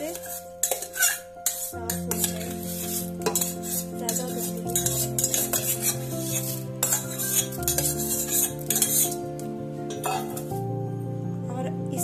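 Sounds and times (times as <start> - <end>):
spoon scraping metal pot: 0.0 - 10.6
background music with held chords: 0.0 - 12.0.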